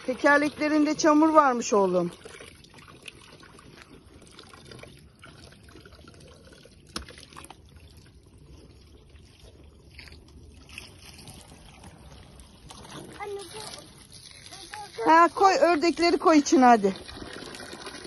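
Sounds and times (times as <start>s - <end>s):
water trickling and sloshing: 0.0s - 18.0s.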